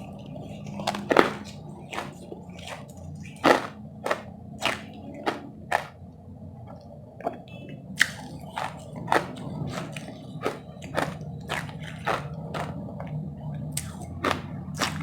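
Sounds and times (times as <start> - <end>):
chewing crunchy ice: 0.0 - 6.0, 8.0 - 15.0.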